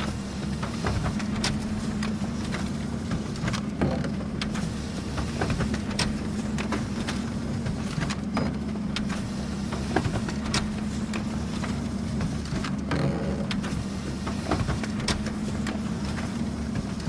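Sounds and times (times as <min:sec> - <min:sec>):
paper feed clicks: 0:00.0 - 0:17.0
printer humming: 0:00.0 - 0:17.0.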